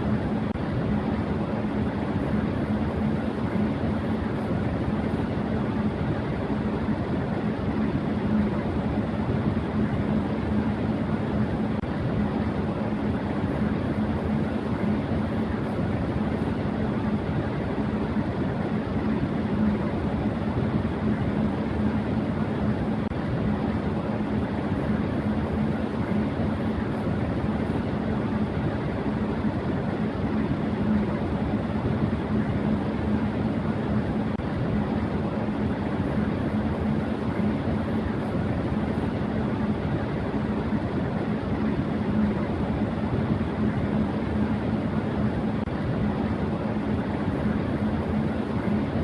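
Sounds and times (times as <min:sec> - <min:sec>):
electric fan rushing air: 0:00.0 - 0:49.0.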